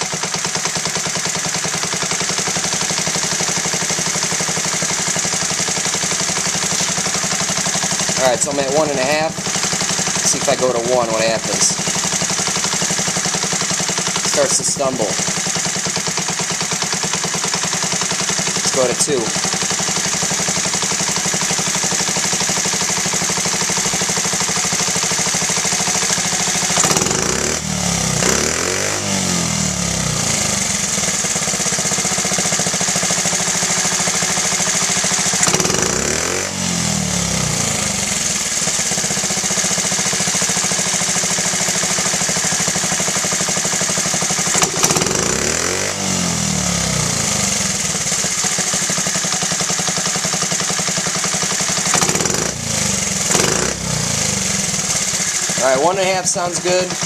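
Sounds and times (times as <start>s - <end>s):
small motorcycle engine idling and revving: 0.0s - 57.0s.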